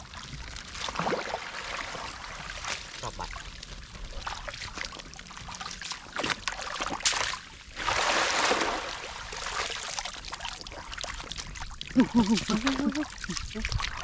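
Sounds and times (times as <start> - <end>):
rush of water: 0.0 - 14.0
water trickling and splashing: 0.0 - 14.0.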